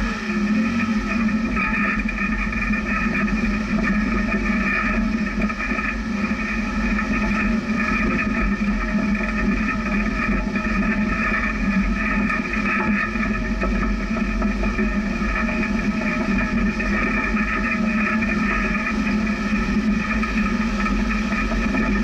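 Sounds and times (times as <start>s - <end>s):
vehicle engine running at low speed: 0.0s - 22.0s.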